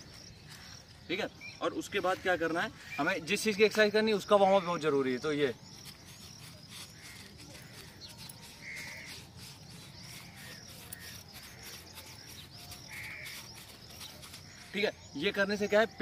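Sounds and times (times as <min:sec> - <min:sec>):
faint outdoor ambience: 0:00.0 - 0:16.0.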